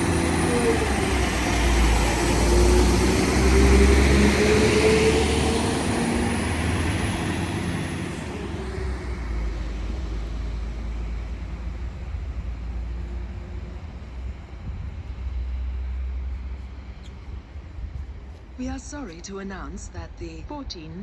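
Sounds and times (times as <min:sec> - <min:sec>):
train engine rumble: 0:00.0 - 0:21.0.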